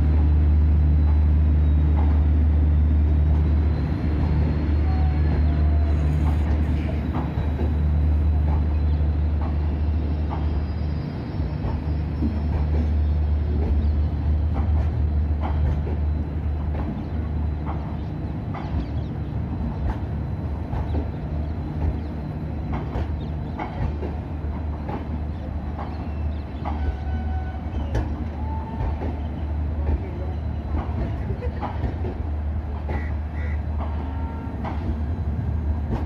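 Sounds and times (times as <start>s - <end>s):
train coaches rumbling: 0.0s - 36.0s
train wheels clacking on rail joints: 0.0s - 36.0s.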